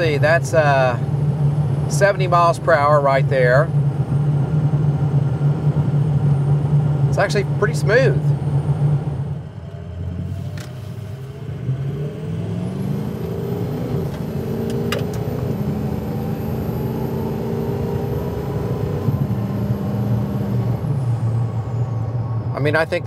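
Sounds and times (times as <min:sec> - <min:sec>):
diesel engine accelerating: 0:00.0 - 0:23.0
high turbo whine: 0:00.0 - 0:23.0.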